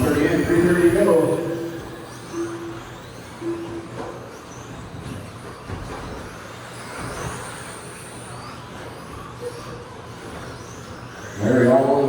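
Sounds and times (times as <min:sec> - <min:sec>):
high electric motor whines: 0:00.0 - 0:12.0.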